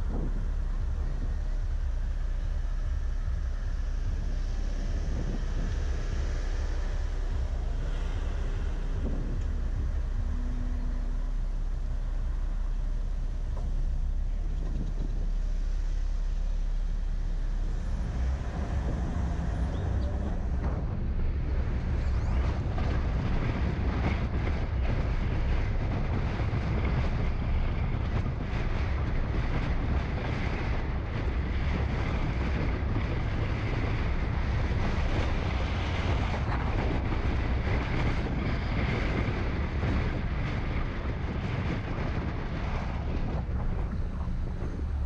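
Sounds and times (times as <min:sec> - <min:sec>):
car driving rumble: 0:00.0 - 0:45.0
wind noise on microphone: 0:00.0 - 0:45.0.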